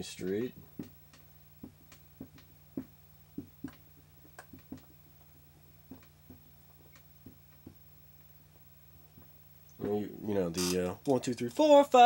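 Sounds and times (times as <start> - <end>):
low hum: 0.0 - 10.5.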